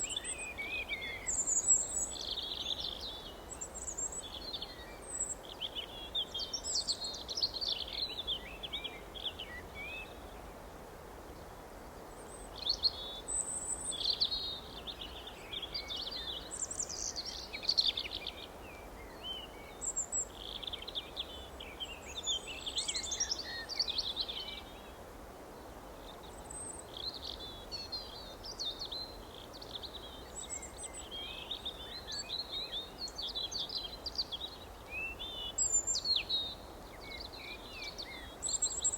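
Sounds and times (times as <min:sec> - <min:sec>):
songbirds singing and chirping: 0:00.0 - 0:10.5, 0:11.4 - 0:25.0, 0:26.0 - 0:38.9.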